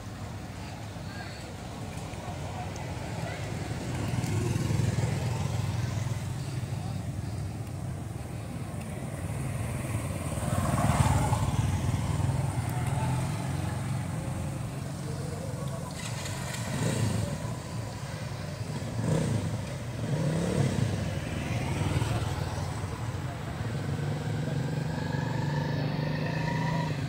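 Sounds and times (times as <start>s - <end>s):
motorbike engines running: 0.0s - 27.0s.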